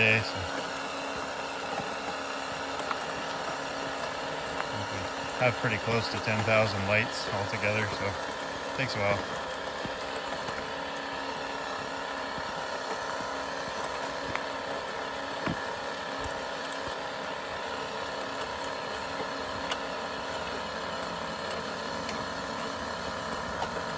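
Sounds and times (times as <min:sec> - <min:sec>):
toy truck motor hum: 0:00.0 - 0:23.9
tyres on gravel: 0:00.0 - 0:23.9.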